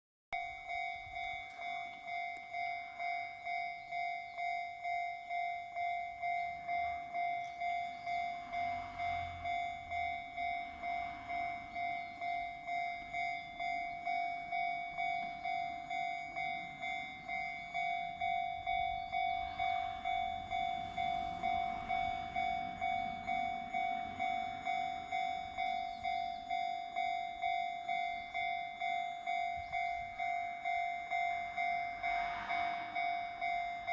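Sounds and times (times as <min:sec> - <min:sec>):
level crossing alarm dinging: 0:00.3 - 0:33.9.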